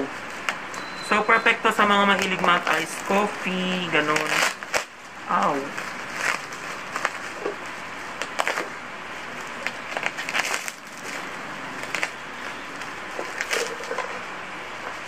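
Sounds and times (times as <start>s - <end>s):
plastic wrapping rustling and crackling: 0.0s - 15.0s.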